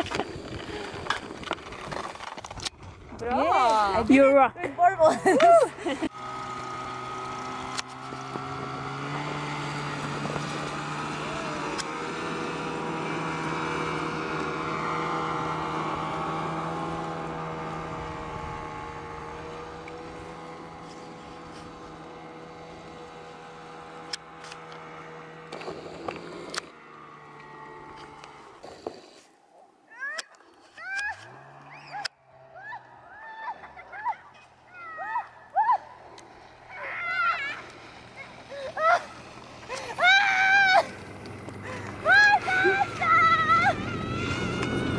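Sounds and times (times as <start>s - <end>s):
snowmobile engine running: 0.0s - 2.3s, 3.2s - 29.4s, 30.2s - 44.9s.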